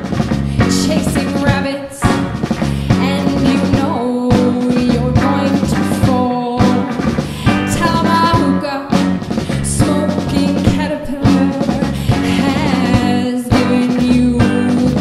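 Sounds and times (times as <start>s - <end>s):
live rock band playing: 0.0s - 15.0s
woman singing: 0.5s - 15.0s.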